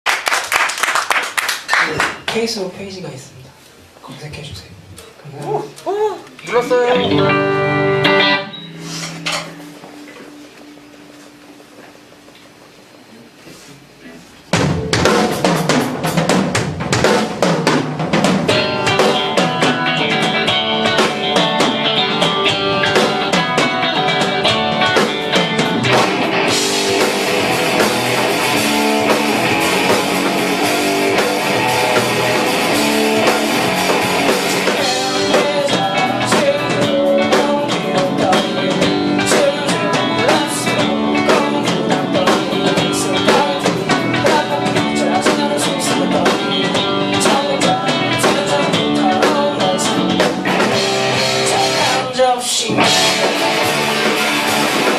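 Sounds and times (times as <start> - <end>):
punk rock band playing live: 6.4 - 11.0, 14.5 - 54.9.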